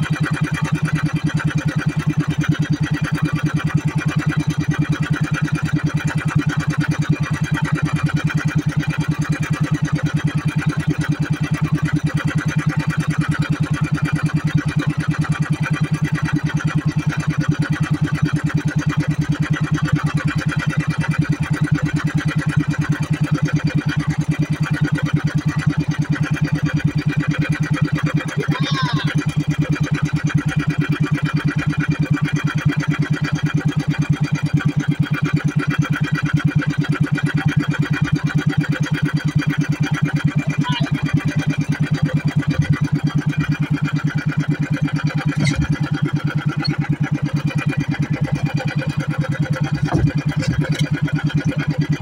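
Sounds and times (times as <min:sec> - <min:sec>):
boat engine chugging: 0:00.0 - 0:52.0.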